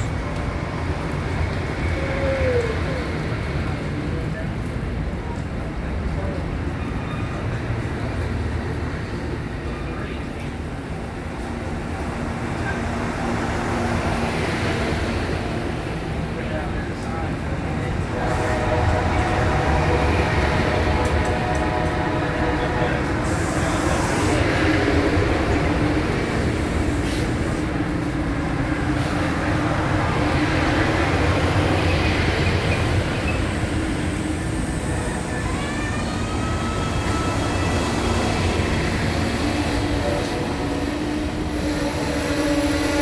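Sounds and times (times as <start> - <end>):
train cars rumbling on rails: 0.0 - 43.0.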